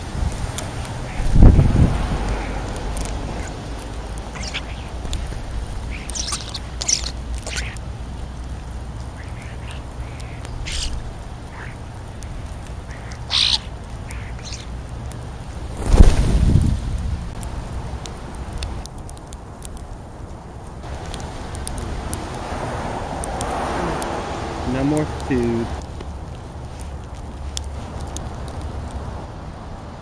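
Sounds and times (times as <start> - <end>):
birds calling: 0.0 - 16.1, 20.9 - 28.9
steady low rumble: 0.0 - 30.0.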